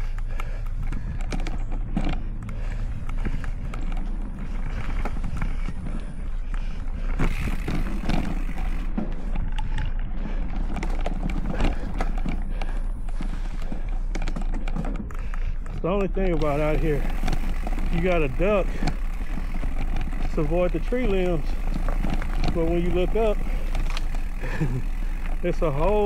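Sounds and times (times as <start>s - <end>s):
bike tyres rumbling on dirt: 0.0s - 26.0s
rattling bike parts clicking: 0.0s - 26.0s.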